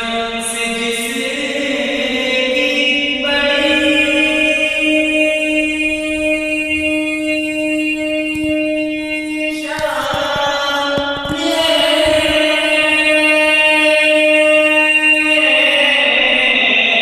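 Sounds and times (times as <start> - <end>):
young man singing a cappella: 0.0 - 17.0.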